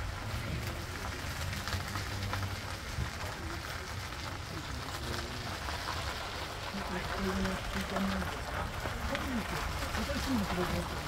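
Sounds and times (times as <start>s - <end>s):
cart wheels rumbling on sand: 0.0s - 11.0s
grit crackling under wheels: 0.0s - 11.0s.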